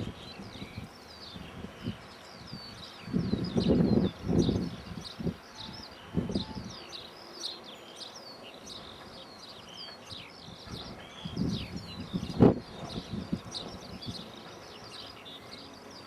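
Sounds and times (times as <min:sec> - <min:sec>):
small birds chirping and singing: 0:00.0 - 0:16.0
wind buffeting microphone: 0:00.0 - 0:16.0.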